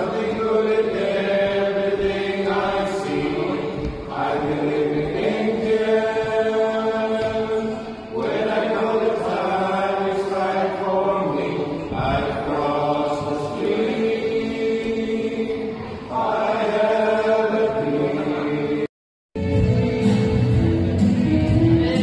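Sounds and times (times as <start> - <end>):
choir singing long held notes: 0.0 - 18.9.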